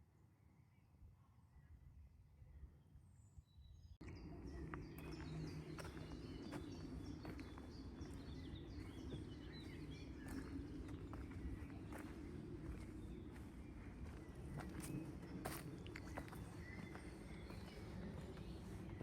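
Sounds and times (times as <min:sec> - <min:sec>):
outdoor background noise: 0:00.0 - 0:19.0
small birds chirping: 0:03.1 - 0:19.0.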